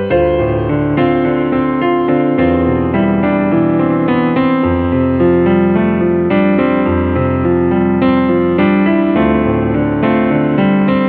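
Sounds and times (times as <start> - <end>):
keyboard piano melody and chords: 0.0 - 11.0.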